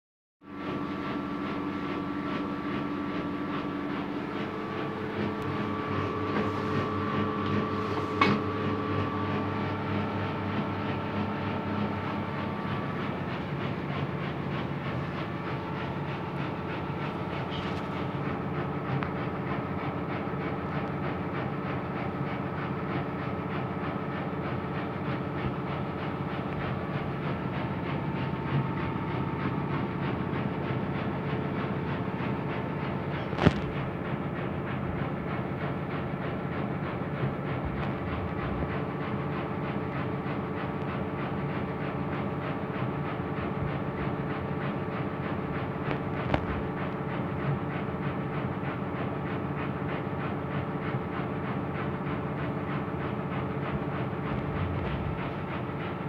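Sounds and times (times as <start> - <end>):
washing machine spinning: 0.4 - 56.0.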